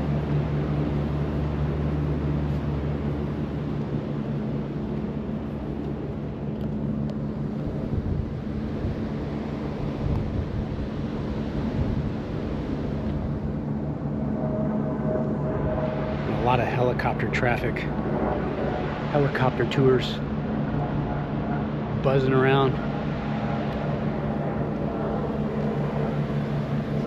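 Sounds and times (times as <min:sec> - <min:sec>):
helicopter droning overhead: 0:00.0 - 0:27.0
wind noise: 0:00.0 - 0:27.0.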